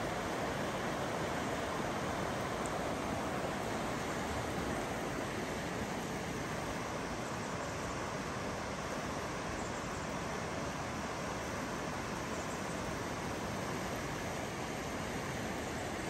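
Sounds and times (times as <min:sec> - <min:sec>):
river water rushing over rocks: 0:00.0 - 0:16.0.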